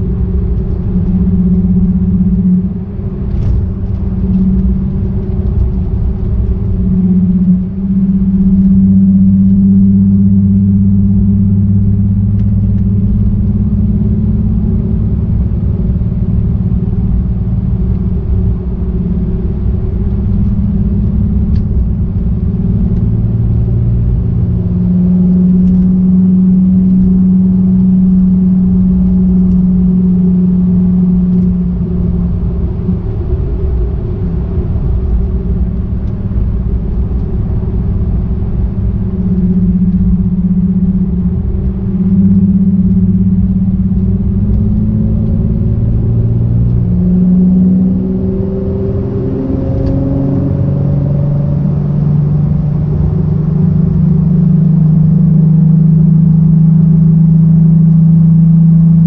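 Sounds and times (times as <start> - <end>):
car engine cruising: 0.0 - 59.0
road rumble: 0.0 - 59.0.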